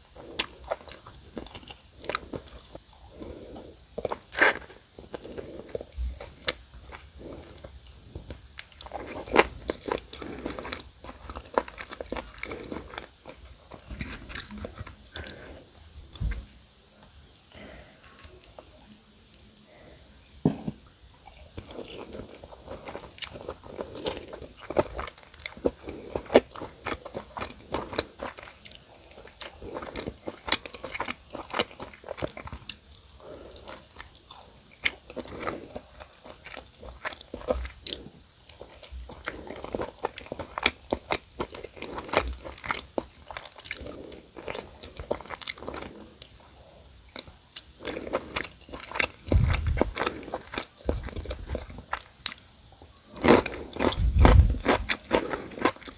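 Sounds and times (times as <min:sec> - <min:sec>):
chewing crispy fried chicken: 0:00.0 - 0:19.9, 0:20.8 - 0:55.9.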